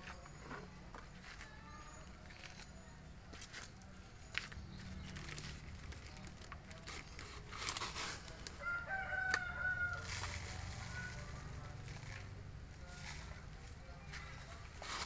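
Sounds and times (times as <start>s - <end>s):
rustle among plant pots: 0.0s - 15.0s.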